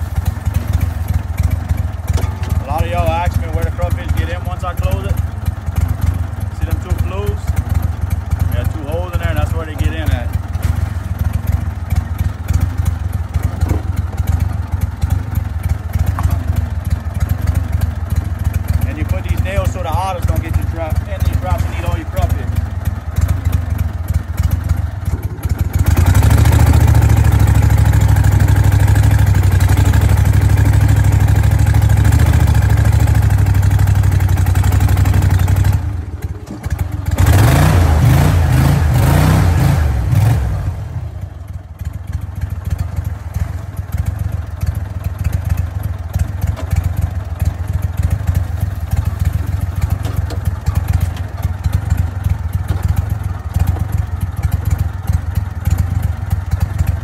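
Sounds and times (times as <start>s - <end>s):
boat engine running: 0.0s - 40.3s, 43.0s - 56.5s.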